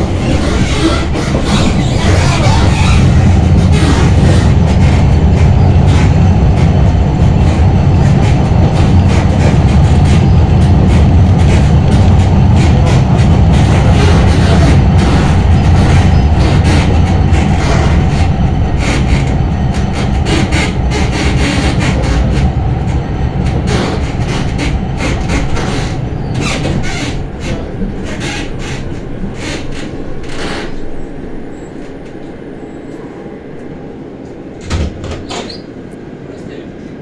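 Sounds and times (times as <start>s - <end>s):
tram running gear rumble: 0.0s - 37.0s.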